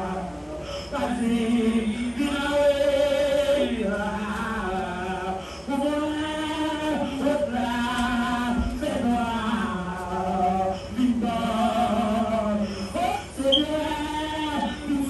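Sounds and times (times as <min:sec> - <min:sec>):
slow prayer chant: 0:00.0 - 0:15.0.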